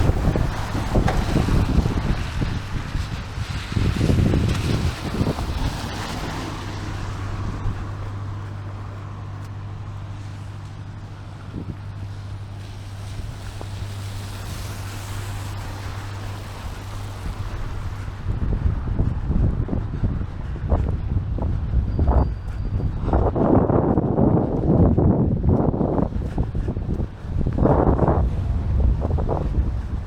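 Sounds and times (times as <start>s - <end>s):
low engine hum: 0.0s - 30.0s
wind buffeting microphone: 0.0s - 30.0s.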